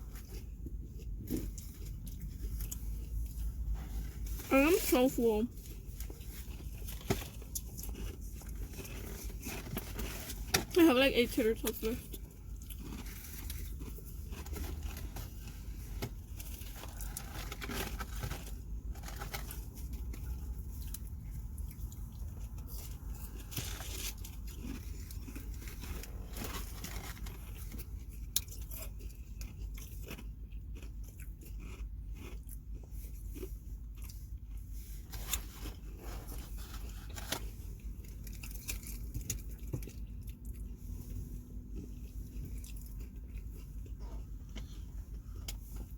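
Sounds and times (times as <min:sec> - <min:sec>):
person chewing crunchy food: 0:00.0 - 0:10.8, 0:11.6 - 0:45.9.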